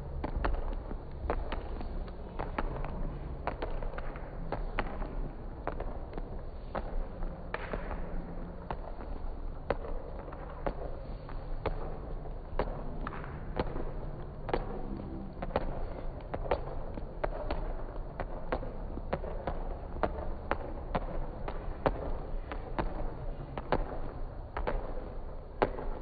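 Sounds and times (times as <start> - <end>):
low hum: 0.0 - 25.1
footfalls on sports hall floor: 0.0 - 26.0.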